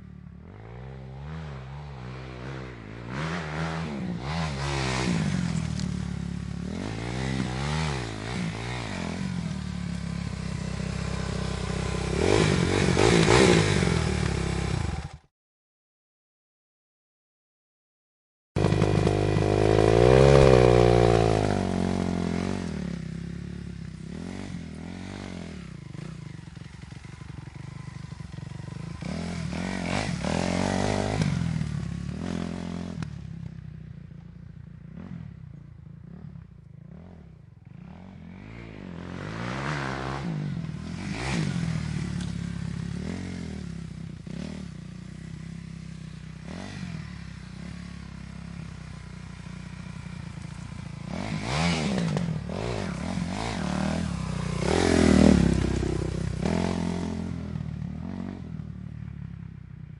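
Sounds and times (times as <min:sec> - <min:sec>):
dirt bike engine revving: 0:00.4 - 0:15.3, 0:18.6 - 0:33.2, 0:36.9 - 0:58.6.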